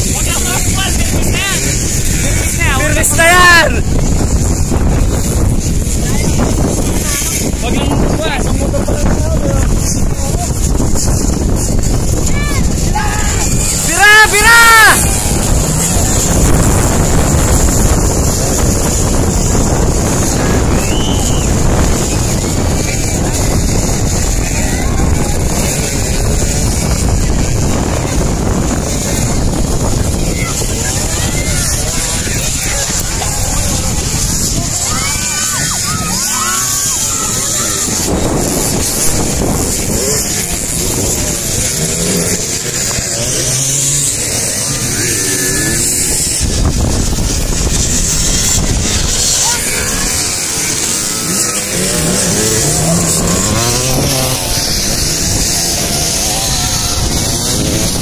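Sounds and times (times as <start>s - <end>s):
motocross bikes revving: 0.0s - 58.0s
wind buffeting microphone: 0.0s - 58.0s.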